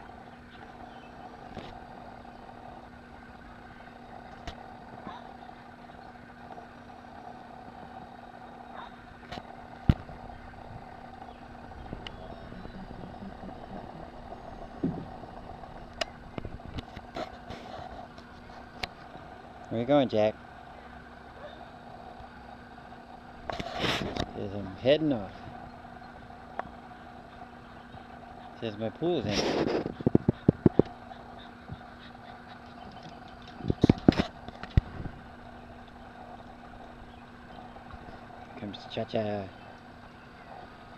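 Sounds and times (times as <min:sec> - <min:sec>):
two-tone mechanical hum: 0:00.0 - 0:40.9.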